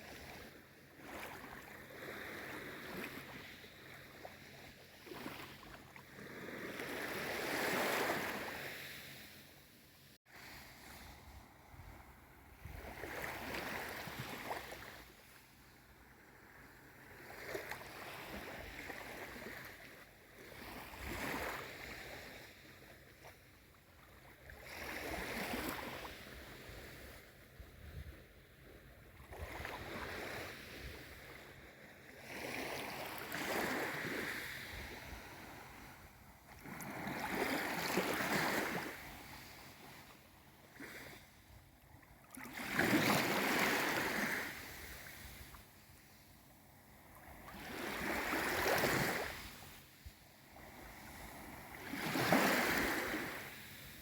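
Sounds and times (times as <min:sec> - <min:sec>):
small waves washing in: 0:00.0 - 0:09.7, 0:10.3 - 0:54.0.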